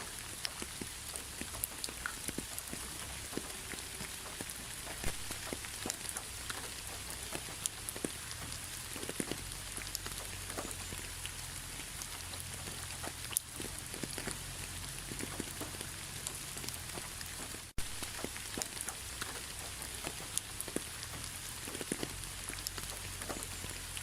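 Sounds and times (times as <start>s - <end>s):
raindrops tapping on a surface: 0.0s - 24.0s
steady rain hiss: 0.0s - 24.0s.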